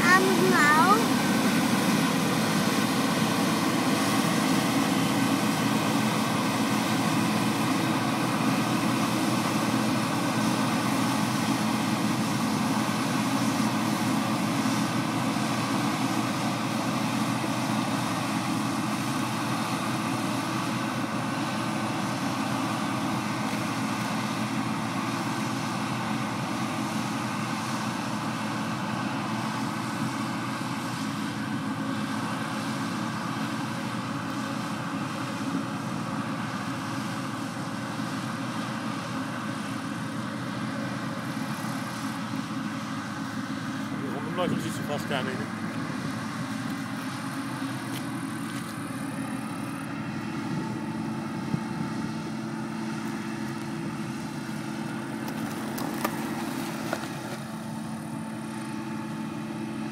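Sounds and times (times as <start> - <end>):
combine harvester threshing drone: 0.0 - 59.9.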